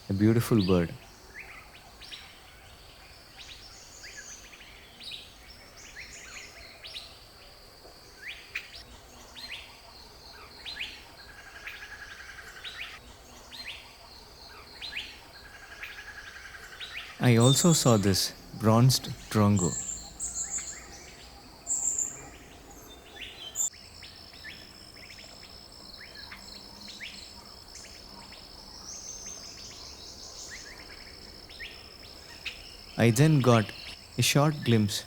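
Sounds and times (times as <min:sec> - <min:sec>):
birds calling: 0:00.0 - 0:07.2, 0:08.2 - 0:35.0.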